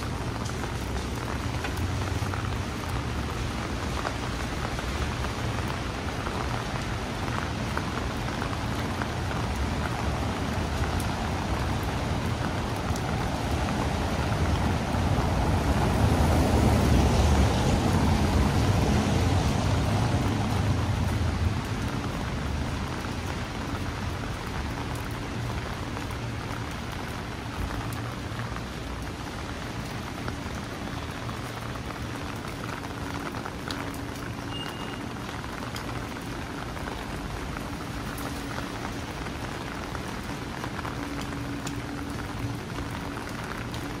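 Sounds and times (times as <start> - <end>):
rain pattering on an umbrella: 0.0 - 44.0.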